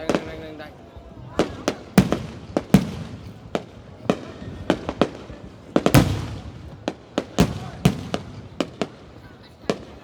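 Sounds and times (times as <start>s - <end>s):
fireworks bangs with rolling echo: 0.0s - 10.0s.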